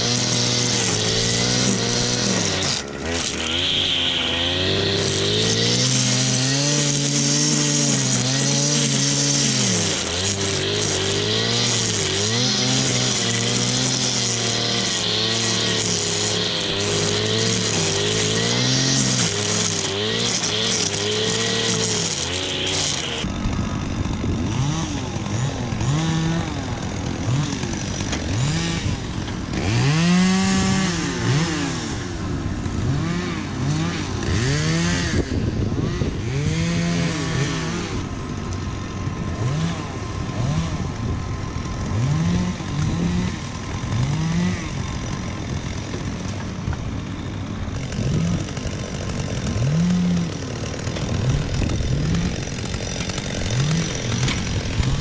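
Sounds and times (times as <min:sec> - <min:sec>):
chainsaw engine revving: 0:00.0 - 0:55.0
tractor engine running: 0:00.0 - 0:55.0.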